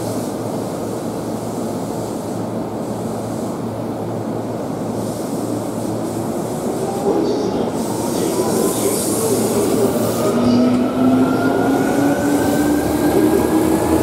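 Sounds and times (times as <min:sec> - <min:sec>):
standing train hum: 0:00.0 - 0:14.0
train wheels on rails: 0:00.0 - 0:14.0.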